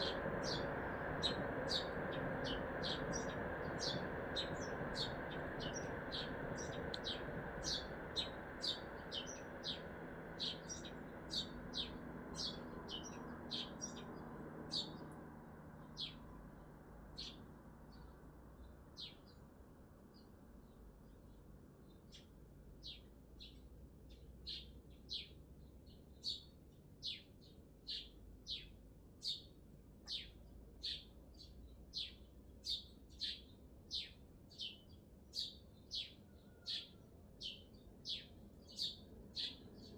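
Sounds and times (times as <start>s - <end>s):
small bird chirping: 0.0s - 19.5s, 20.1s - 39.9s
city traffic hum: 0.0s - 39.9s.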